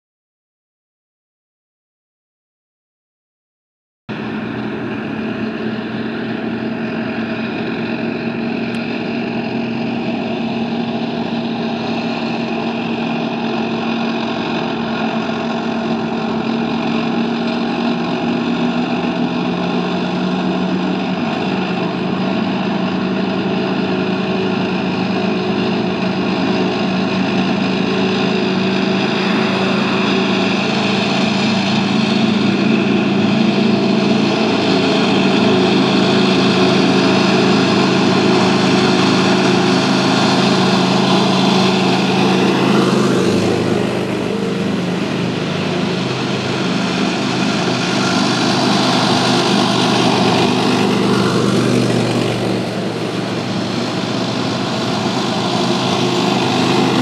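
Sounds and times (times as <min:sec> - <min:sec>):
armoured vehicle engines droning: 0:04.1 - 0:57.0.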